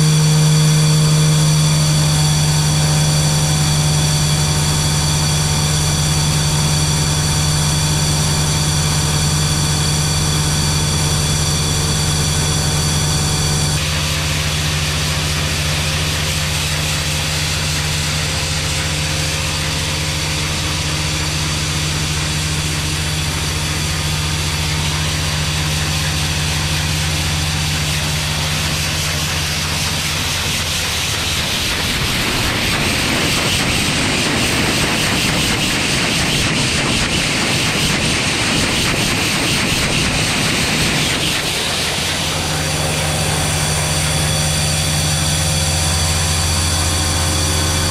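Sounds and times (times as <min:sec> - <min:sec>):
grain vacuum drone and whine: 0:00.0 - 0:47.9.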